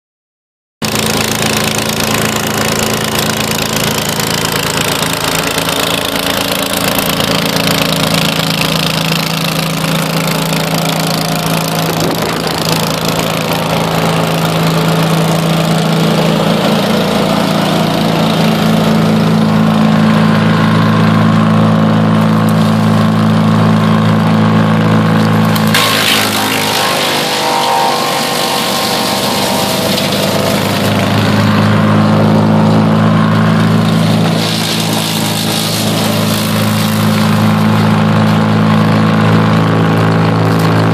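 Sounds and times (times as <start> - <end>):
wood chipper engine drone: 0.8 - 40.9.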